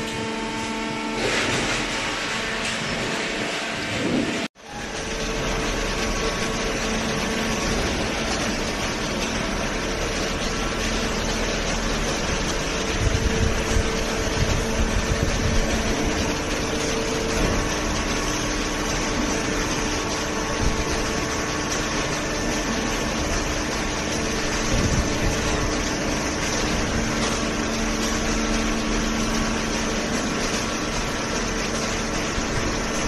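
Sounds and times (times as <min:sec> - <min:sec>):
baler machine running: 0:00.0 - 0:33.0.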